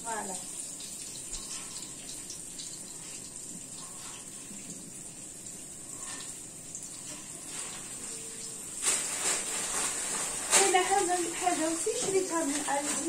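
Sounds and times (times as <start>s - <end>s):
faint oil crackles: 0.0s - 13.0s
fish sizzling in hot oil: 0.0s - 13.0s.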